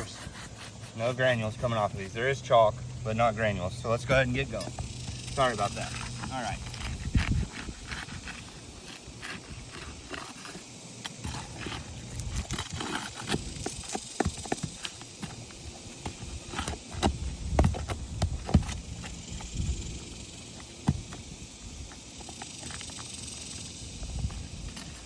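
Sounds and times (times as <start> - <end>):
taps and scrapes on roof shingles: 0.0 - 2.4, 3.0 - 25.0.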